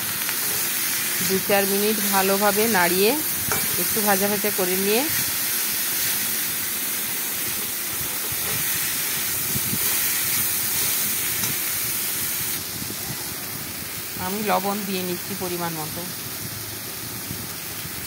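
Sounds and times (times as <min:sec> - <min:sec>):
fruit slices frying in oil: 0:00.0 - 0:18.0.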